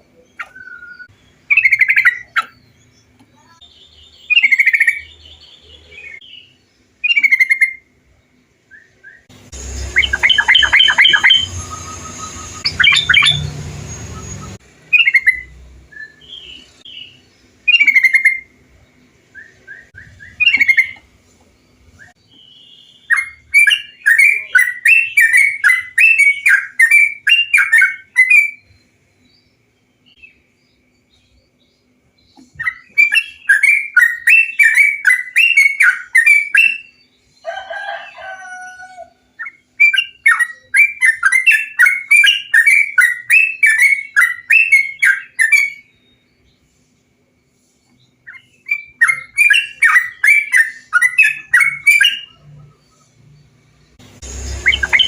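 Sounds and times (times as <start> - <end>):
bird chirping song: 0.0 - 55.0.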